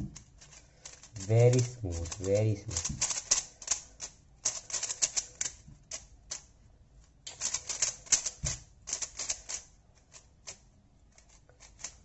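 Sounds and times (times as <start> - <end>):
speed cube plastic clicks: 0.0 - 6.4, 7.3 - 10.6.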